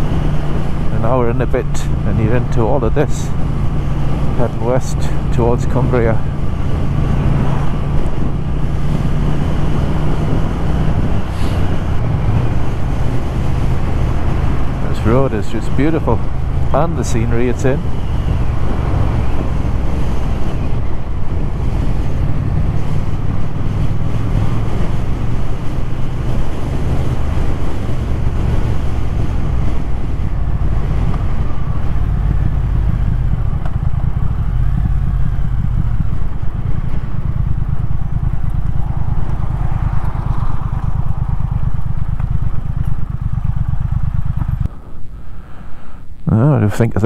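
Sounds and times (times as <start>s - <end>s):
motorcycle engine running: 0.0s - 45.8s
wind rushing over microphone: 0.0s - 46.2s.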